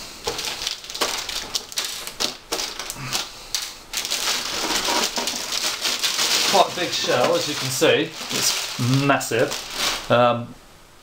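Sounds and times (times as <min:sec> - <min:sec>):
plastic bag crinkling: 0:00.2 - 0:10.3.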